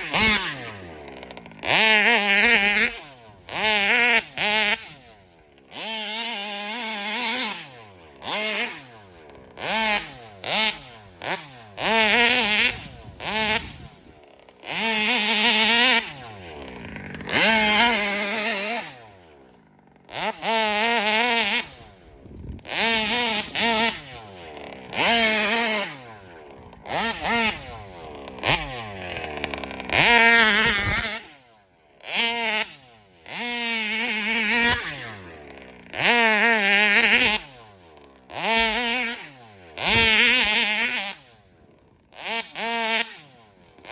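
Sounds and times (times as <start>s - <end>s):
rc car engine revving: 0.0s - 43.9s.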